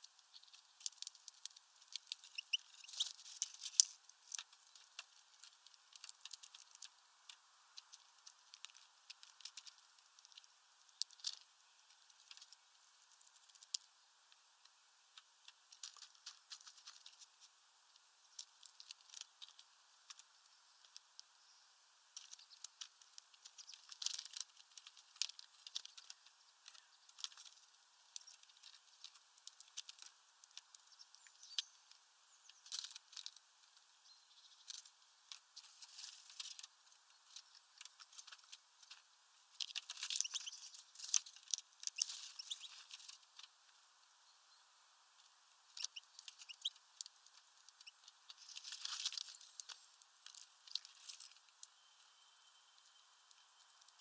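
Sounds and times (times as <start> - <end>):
birds cracking seeds clicking: 0.0 - 21.4, 22.0 - 43.9, 45.2 - 51.8.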